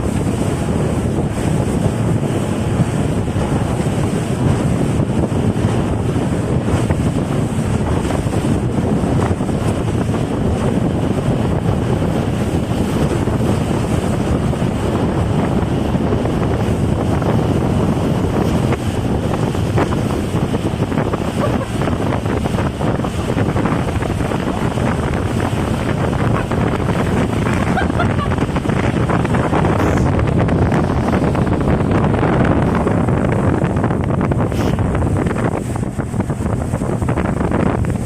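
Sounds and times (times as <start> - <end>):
water rushing and splashing: 0.0 - 38.0
wind buffeting microphone: 0.0 - 38.0.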